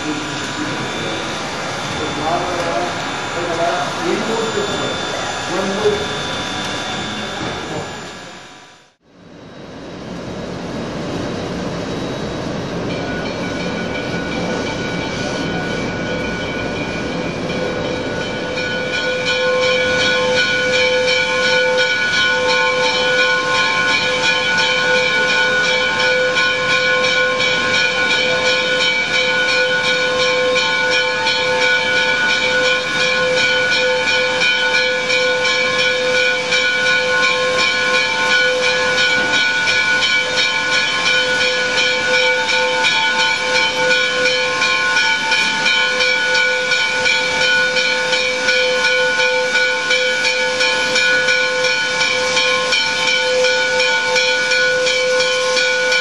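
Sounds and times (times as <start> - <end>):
steam locomotive hissing: 0.0 - 8.7, 10.7 - 56.0
steady ringing tone: 0.0 - 56.0.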